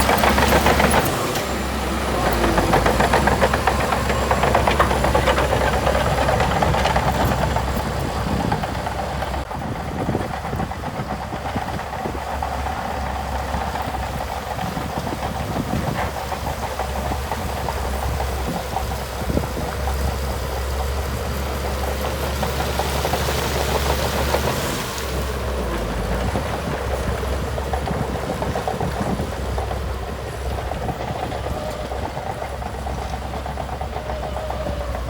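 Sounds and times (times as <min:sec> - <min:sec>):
dense rattle: 0:00.0 - 0:35.0
diesel engine running: 0:00.0 - 0:35.0.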